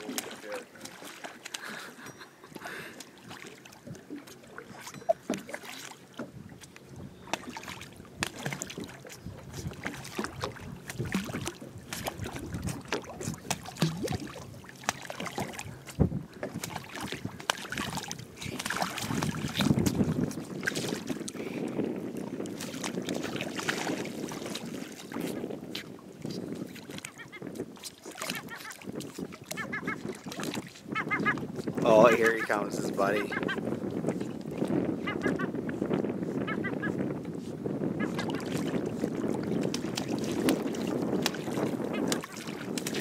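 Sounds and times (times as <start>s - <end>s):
lake water splashing and lapping: 0.0s - 43.0s
wind on microphone: 6.2s - 43.0s.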